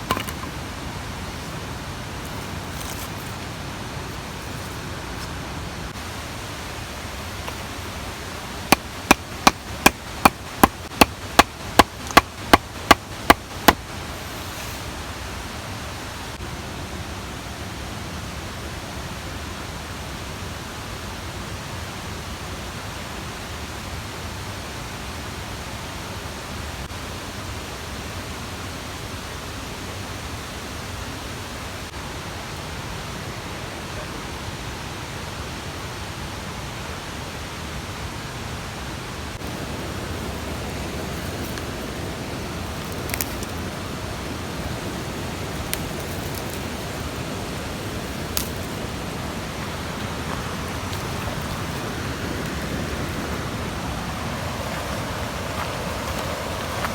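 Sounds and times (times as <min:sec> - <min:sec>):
mountain stream rushing: 0:00.0 - 0:56.9.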